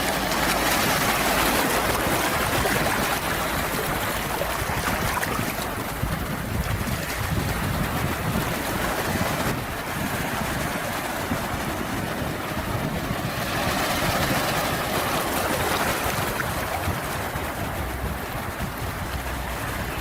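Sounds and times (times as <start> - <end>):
sea waves washing: 0.0 - 20.0.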